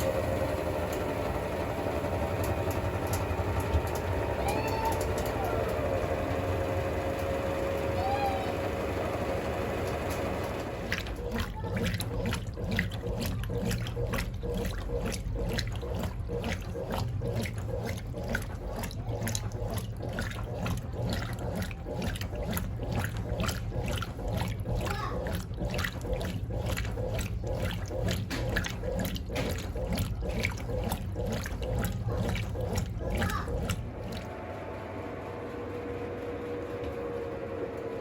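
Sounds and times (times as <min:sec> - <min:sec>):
washing machine sloshing laundry: 0:00.0 - 0:38.0.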